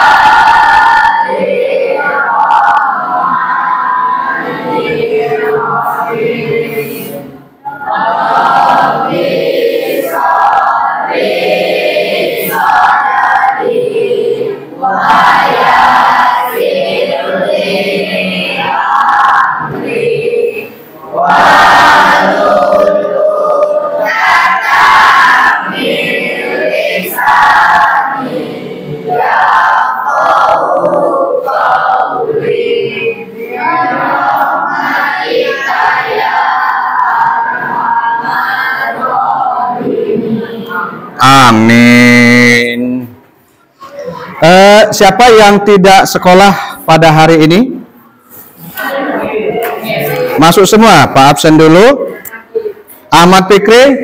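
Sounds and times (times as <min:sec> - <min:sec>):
children reciting in unison: 0:00.0 - 0:54.0.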